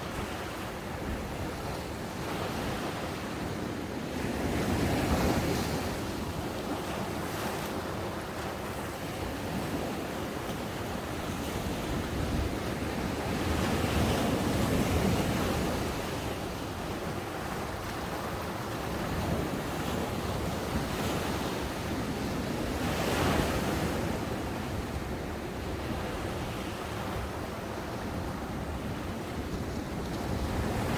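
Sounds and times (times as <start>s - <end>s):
ocean waves breaking on beach: 0.0s - 30.9s
wind on microphone: 0.0s - 30.9s.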